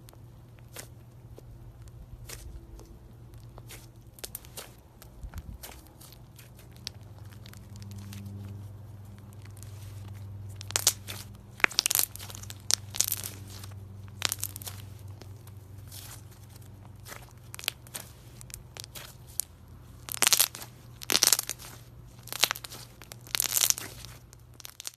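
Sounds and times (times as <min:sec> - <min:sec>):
slime crackling and popping: 0:00.0 - 0:01.1, 0:01.8 - 0:24.9.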